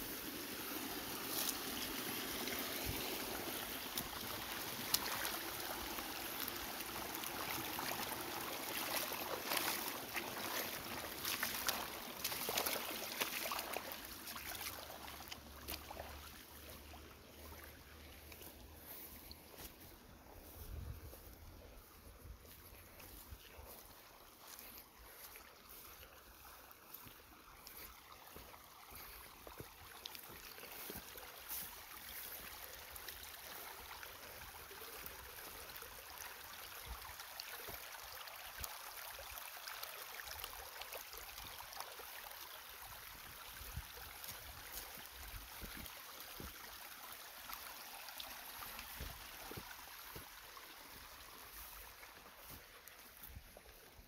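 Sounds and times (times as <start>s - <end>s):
water trickling along furrow: 0.0s - 54.0s.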